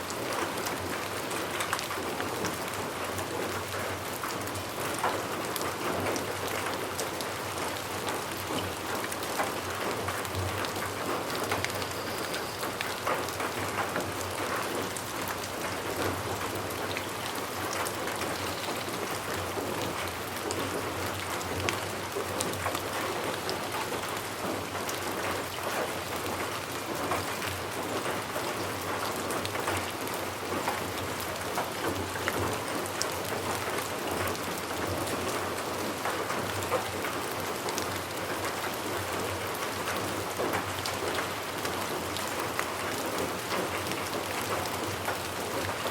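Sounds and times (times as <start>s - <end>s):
raindrops ticking on a surface: 0.0s - 45.9s
steady rain: 0.0s - 45.9s.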